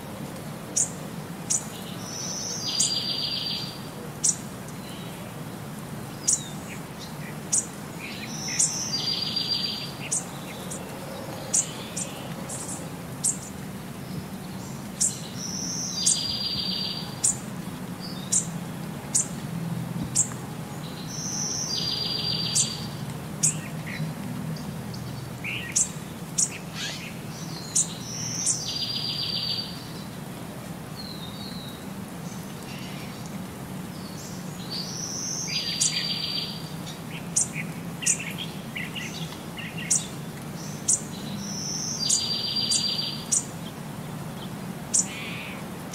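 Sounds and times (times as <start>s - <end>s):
birds chirping: 6.1s - 19.4s, 20.1s - 30.3s, 31.0s - 45.9s.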